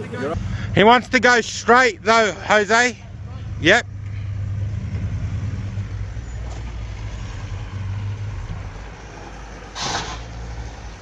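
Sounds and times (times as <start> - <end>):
vehicle engine running at low revs: 0.4 - 9.6.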